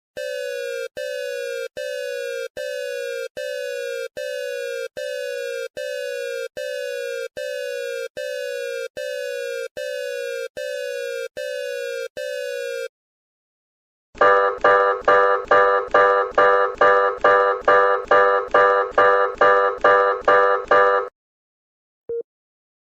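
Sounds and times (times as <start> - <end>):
harsh buzzy alarm beeps: 0.2 - 12.9, 14.2 - 21.1.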